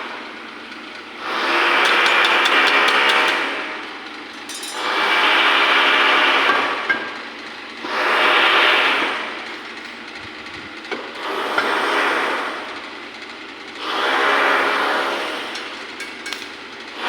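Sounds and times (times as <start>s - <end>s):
power tool grinding: 1.0s - 17.0s.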